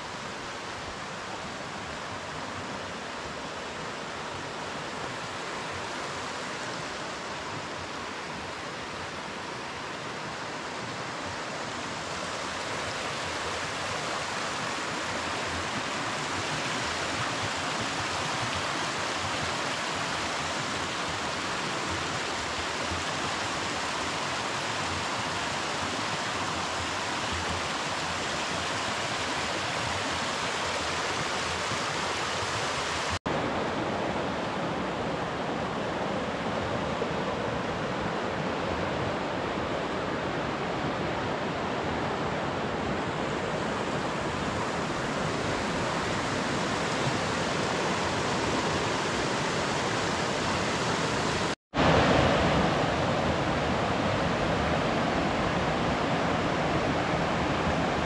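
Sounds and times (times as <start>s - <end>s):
stream rushing over stones: 0.0s - 58.0s.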